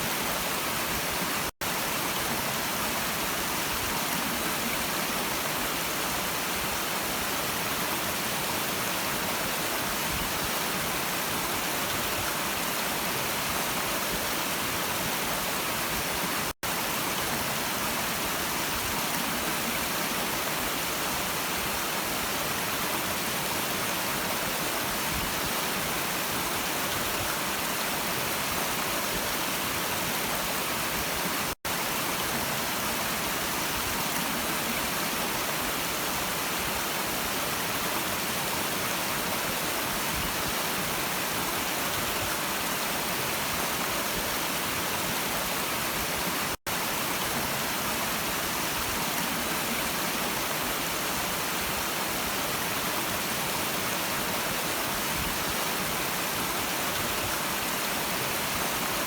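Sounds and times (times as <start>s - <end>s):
running stream: 0.0s - 59.0s.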